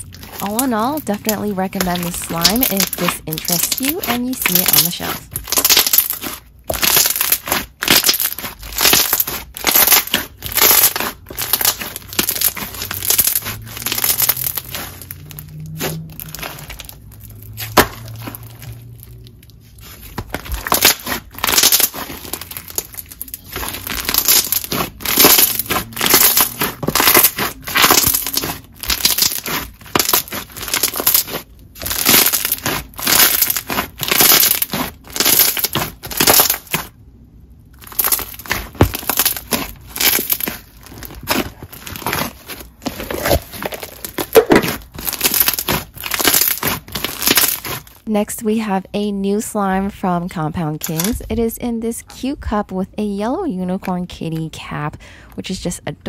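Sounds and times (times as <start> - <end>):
slime crunching and popping: 0.0 - 37.0, 37.7 - 48.0.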